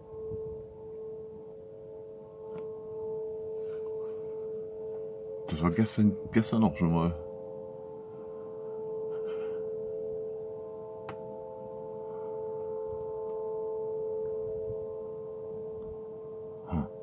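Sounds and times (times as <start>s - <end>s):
droning chord of held tones: 0.0s - 17.0s.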